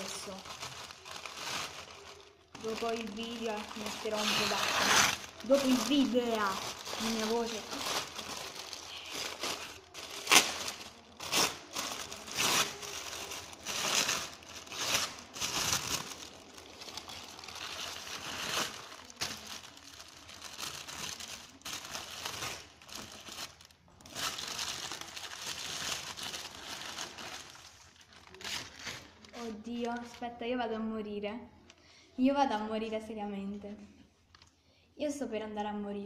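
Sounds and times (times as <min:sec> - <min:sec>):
sharp paper crackle: 0:00.0 - 0:30.2
wrapping paper rustling and crinkling: 0:00.0 - 0:30.3.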